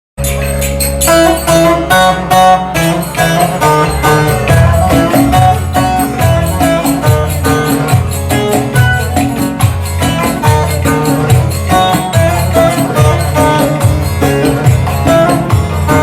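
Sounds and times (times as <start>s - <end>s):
plucked string melody: 0.2s - 16.0s
sharp percussion strikes: 0.2s - 16.0s.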